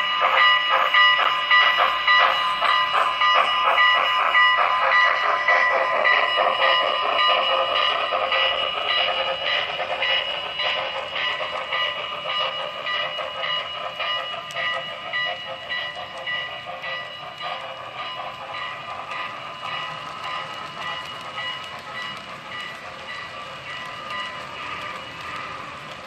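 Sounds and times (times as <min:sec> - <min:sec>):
rhythmic train bell ringing: 0:00.0 - 0:26.0.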